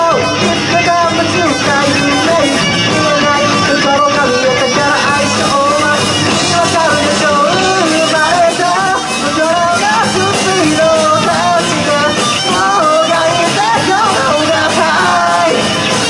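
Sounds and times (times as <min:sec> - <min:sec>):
bass: 0:00.0 - 0:16.0
drums: 0:00.0 - 0:16.0
electric guitars: 0:00.0 - 0:16.0
person singing lead vocal: 0:00.0 - 0:16.0.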